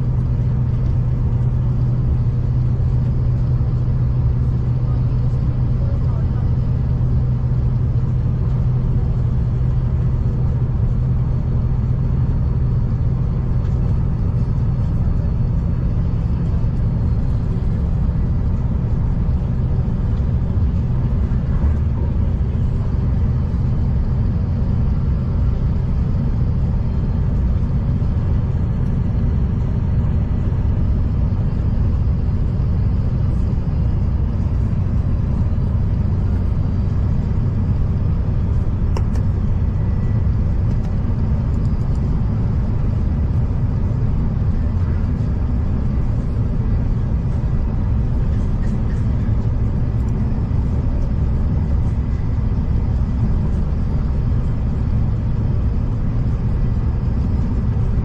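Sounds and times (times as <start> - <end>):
diesel train rumbling on track: 0.0 - 58.0.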